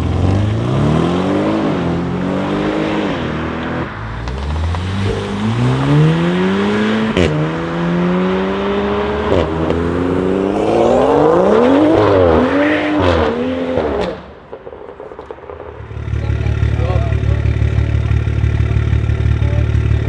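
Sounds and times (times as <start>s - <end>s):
car engine accelerating hard: 0.0s - 14.3s, 15.8s - 20.0s
exhaust crack on upshift: 0.0s - 20.0s.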